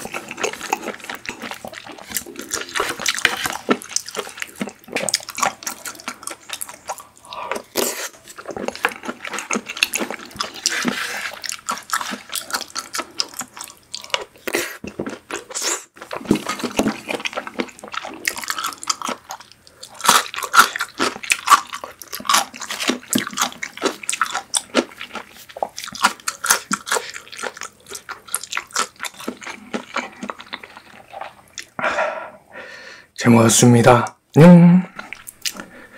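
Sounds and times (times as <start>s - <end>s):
slurping and chewing pasta: 0.0s - 32.1s, 34.9s - 35.9s.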